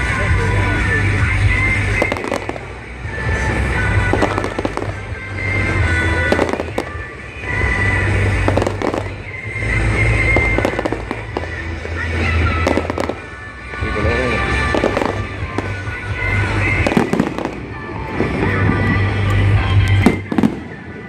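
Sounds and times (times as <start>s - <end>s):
loud music with strong bass: 0.0s - 21.0s
fireworks bangs: 1.1s - 21.0s.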